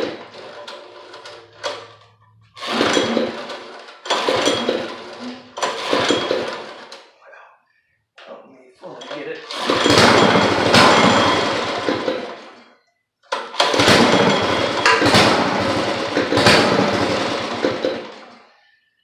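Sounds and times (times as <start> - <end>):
small gasoline engine starting and dying: 0.0 - 7.0, 9.1 - 12.6, 13.4 - 18.6.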